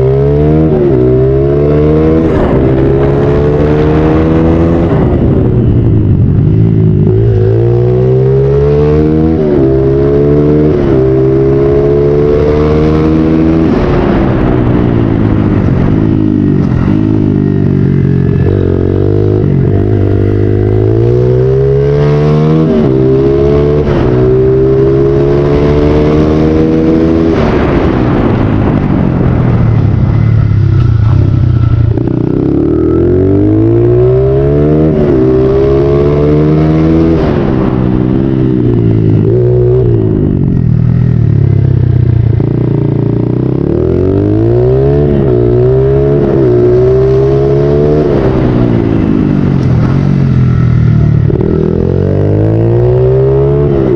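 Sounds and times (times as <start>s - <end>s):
motorbike engine revving: 0.0s - 53.9s.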